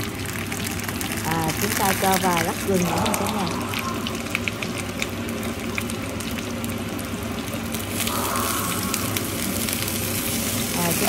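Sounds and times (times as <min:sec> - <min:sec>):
meat sizzling in pot: 0:00.0 - 0:11.0.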